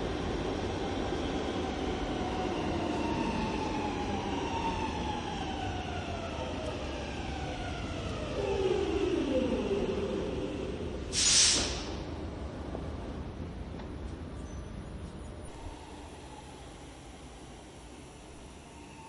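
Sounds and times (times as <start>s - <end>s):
metro train whine slowing: 0.0s - 19.0s.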